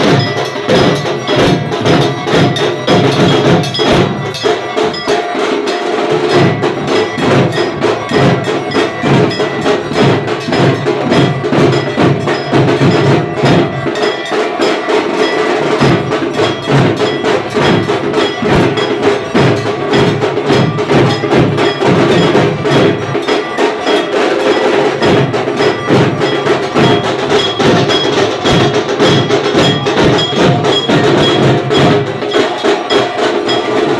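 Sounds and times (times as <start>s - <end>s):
drums beaten rapidly: 0.0s - 33.9s
gong clanging: 0.0s - 33.9s.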